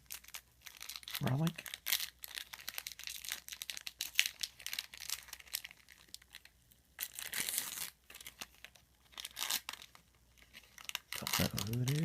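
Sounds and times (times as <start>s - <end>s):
card pack wrapper crinkling: 0.0s - 12.0s
wrapper ripping: 0.0s - 12.0s.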